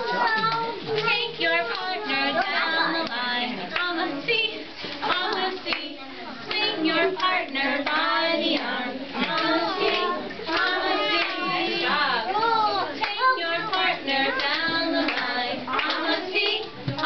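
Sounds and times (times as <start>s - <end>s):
hands clapping: 0.0s - 3.9s, 4.9s - 5.9s, 6.5s - 11.9s, 13.0s - 17.0s
young children singing: 0.0s - 17.0s.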